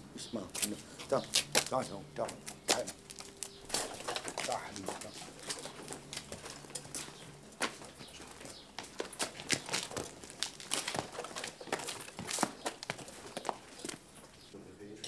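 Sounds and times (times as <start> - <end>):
donkey hooves clopping on stone: 0.5 - 14.6.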